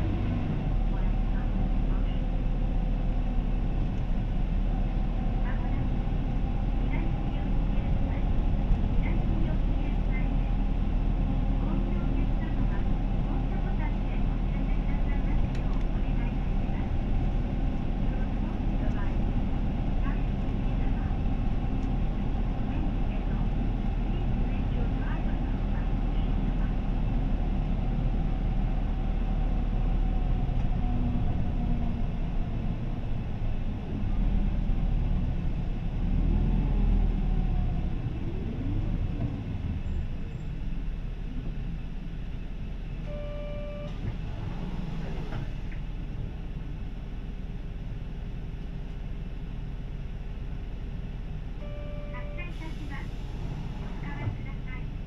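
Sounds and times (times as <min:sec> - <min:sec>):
bus diesel engine: 0:00.0 - 0:55.0
road rumble: 0:00.0 - 0:55.0.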